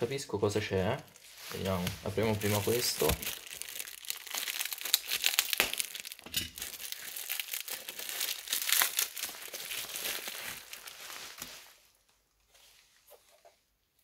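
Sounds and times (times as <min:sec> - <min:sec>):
bubble wrap crackling: 0:00.7 - 0:13.1.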